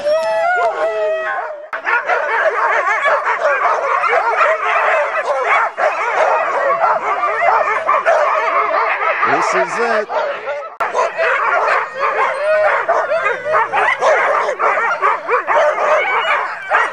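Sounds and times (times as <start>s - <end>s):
sled dogs barking and yipping: 0.0s - 16.9s.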